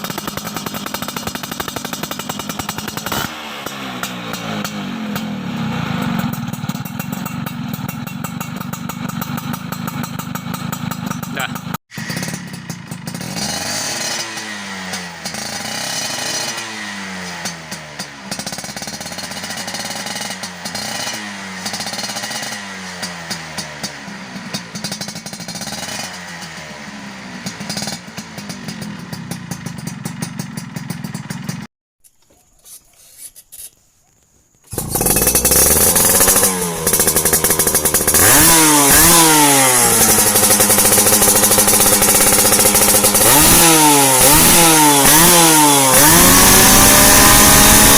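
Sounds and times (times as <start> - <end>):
two-stroke engine revving: 0.0 - 31.7, 34.7 - 47.9.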